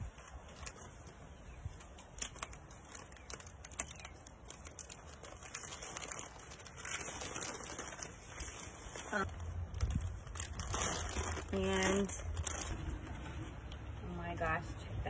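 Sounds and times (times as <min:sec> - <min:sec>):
plastic and cardboard rustling: 0:00.0 - 0:14.0.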